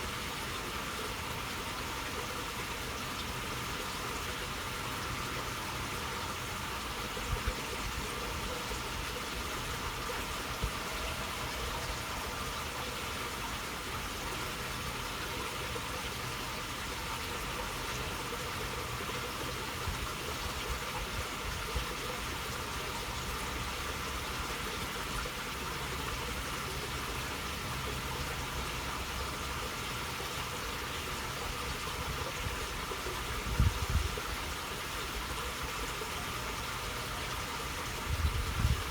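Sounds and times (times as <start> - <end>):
water flowing in a channel: 0.0 - 38.9.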